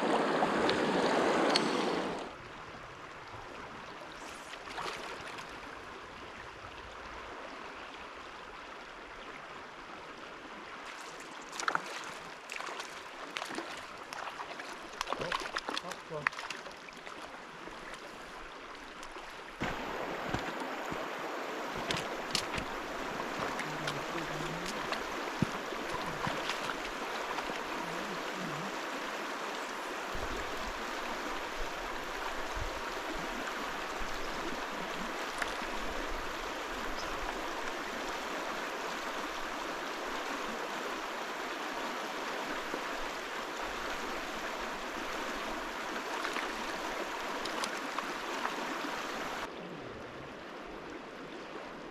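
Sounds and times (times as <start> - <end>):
river water rushing: 0.0 - 2.6, 7.0 - 49.6.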